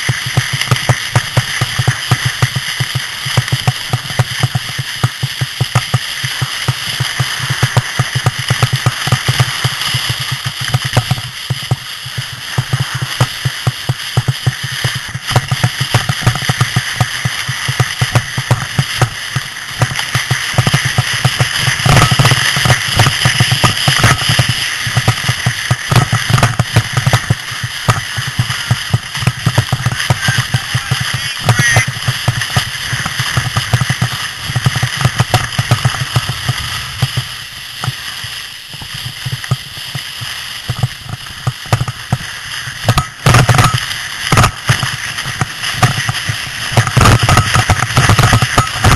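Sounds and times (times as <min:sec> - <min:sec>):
sled knocking and rattling: 0:00.0 - 0:48.9
sled scraping over snow: 0:00.0 - 0:48.9.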